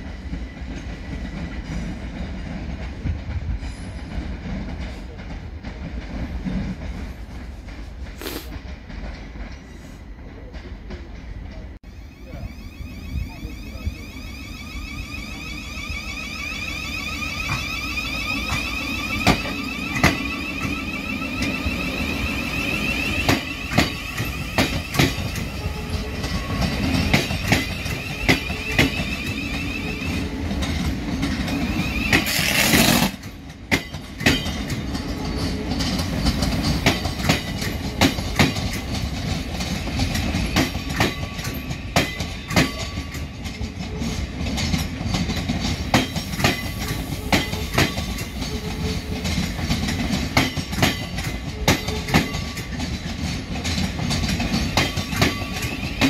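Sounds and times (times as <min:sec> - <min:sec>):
train wheels clacking: 0:00.0 - 0:11.8, 0:17.4 - 0:56.0.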